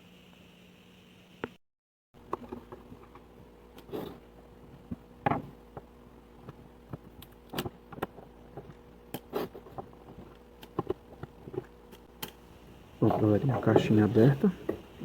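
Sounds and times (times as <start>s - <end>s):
faint steady hum: 2.2s - 15.0s.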